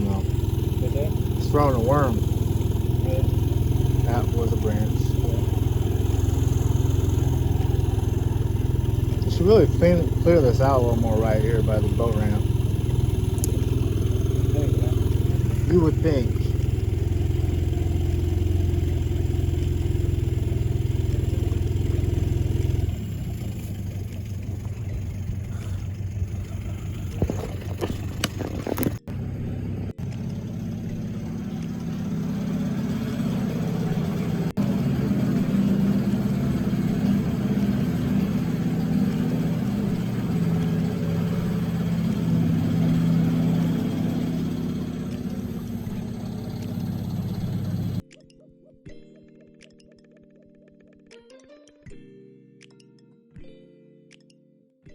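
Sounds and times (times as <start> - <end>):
engine running: 0.0 - 48.0.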